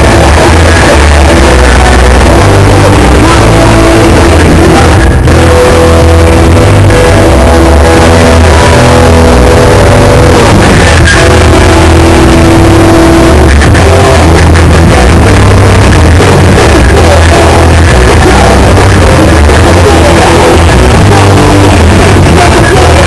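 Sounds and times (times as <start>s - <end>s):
bass: 0.0s - 23.0s
distorted electric guitars: 0.0s - 23.0s
drums: 0.0s - 23.0s.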